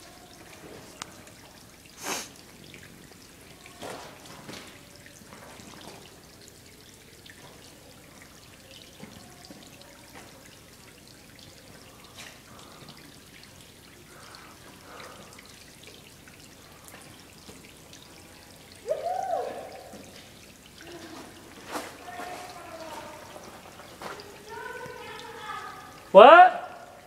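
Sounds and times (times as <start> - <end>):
waterfall trickling over rock: 0.0 - 27.0.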